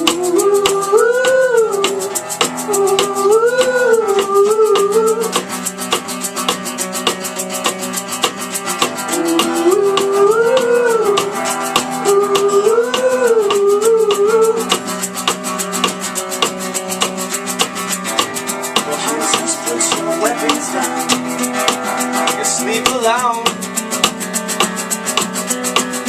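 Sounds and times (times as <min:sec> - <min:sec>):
shaker rattle: 0:00.0 - 0:26.0
strummed guitar: 0:00.0 - 0:26.0
wavering wordless melody: 0:00.0 - 0:26.0.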